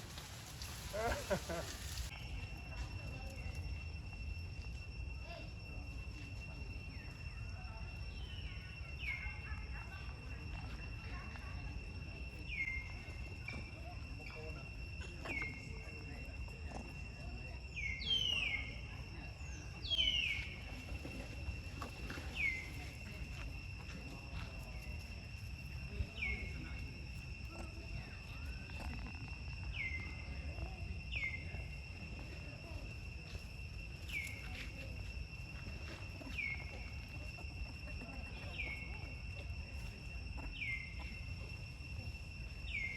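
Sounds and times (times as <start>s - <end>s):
high-pitched insect drone: 0.0s - 42.9s.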